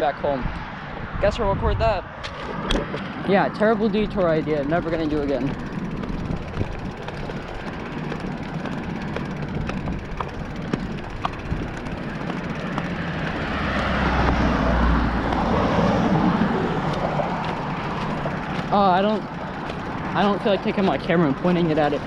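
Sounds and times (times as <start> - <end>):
traffic background noise: 0.0 - 22.0
vehicle passing with tyre noise: 2.0 - 22.0.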